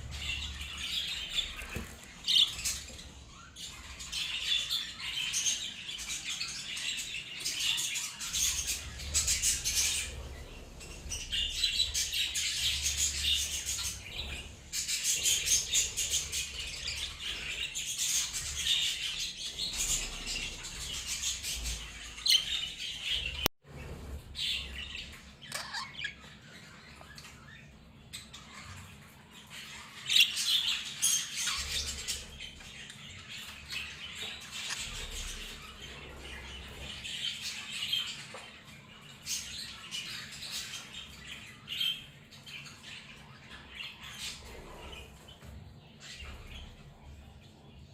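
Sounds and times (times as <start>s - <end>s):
budgerigars chirping and warbling: 0.0s - 47.9s.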